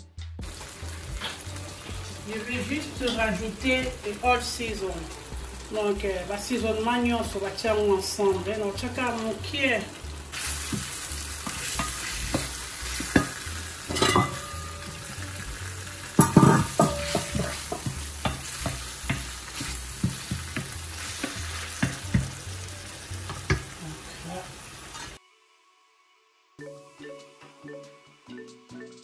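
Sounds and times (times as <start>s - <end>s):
vegetables sizzling in oil: 0.4s - 25.2s.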